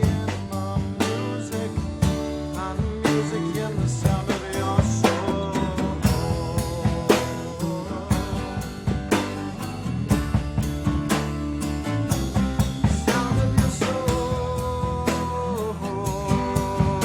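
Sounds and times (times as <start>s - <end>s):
drum kit beat: 0.0s - 17.0s.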